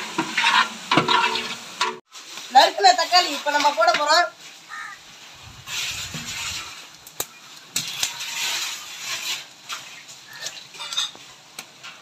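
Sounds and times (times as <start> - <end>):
tomatoes sizzling in hot pot: 0.0 - 12.0.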